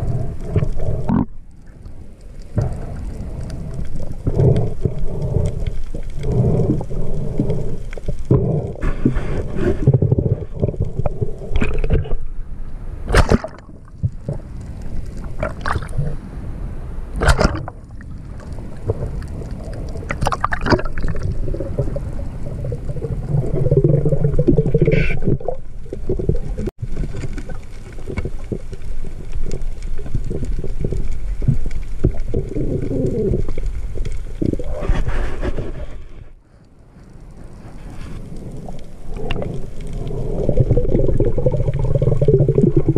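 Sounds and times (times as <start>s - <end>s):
water sloshing and gurgling: 0.0s - 16.5s, 17.1s - 42.9s.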